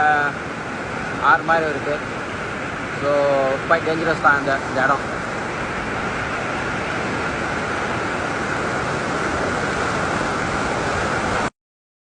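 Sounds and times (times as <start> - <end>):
river water rushing: 0.0 - 11.5.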